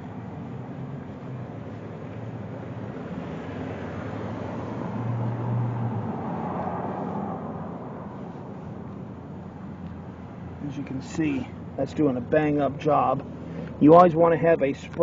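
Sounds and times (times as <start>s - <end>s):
vehicle passing engine hum: 0.0s - 15.0s.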